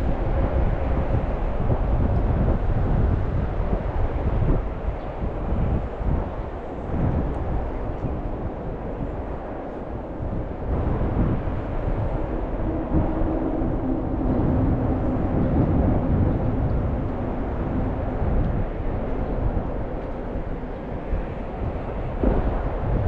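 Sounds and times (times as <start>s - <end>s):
faint steady drone: 0.0s - 23.0s
wind buffeting microphone: 0.0s - 23.0s.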